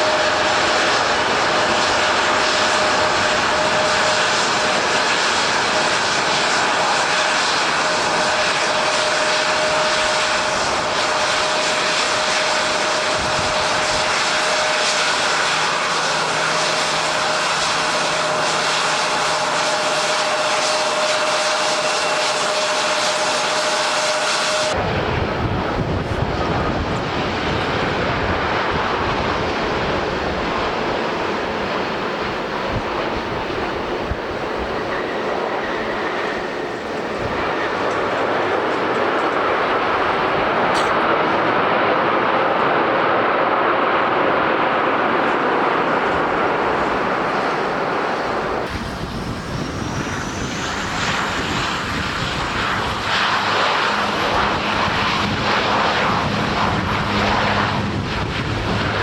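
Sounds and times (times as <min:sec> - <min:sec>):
airliner engines whining: 0:00.0 - 0:59.0
wind and rain: 0:00.0 - 0:59.0.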